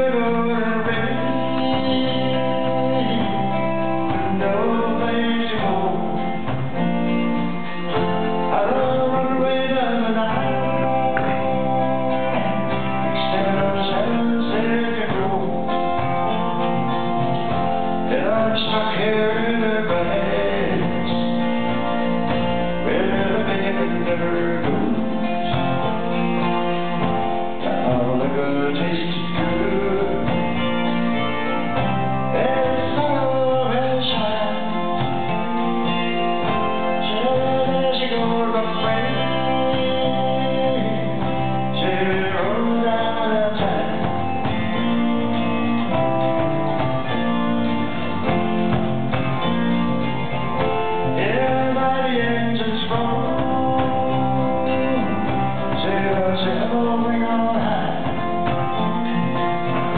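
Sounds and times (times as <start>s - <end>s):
man singing: 0.0s - 46.1s, 50.1s - 59.9s
acoustic guitar: 0.0s - 59.9s
drums: 0.0s - 59.9s
electric bass: 0.0s - 59.9s
electric guitar: 0.0s - 59.9s
keyboard: 0.0s - 59.9s.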